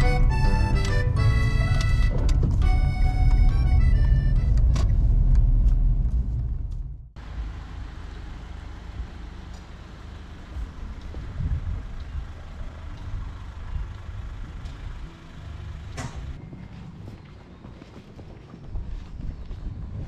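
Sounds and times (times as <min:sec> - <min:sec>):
motor vehicle rumble: 0:00.0 - 0:20.0
road noise: 0:00.0 - 0:20.0.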